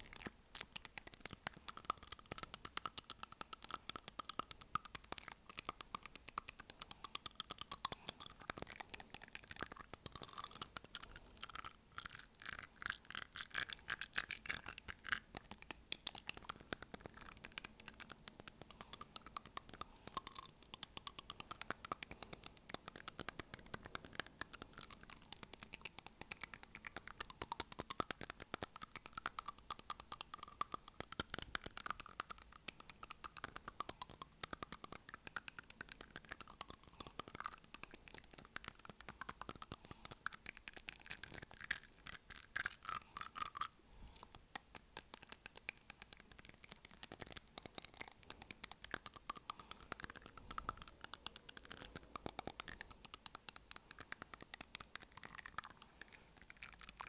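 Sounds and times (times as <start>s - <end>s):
fingernails tapping on teeth: 0.0s - 57.0s.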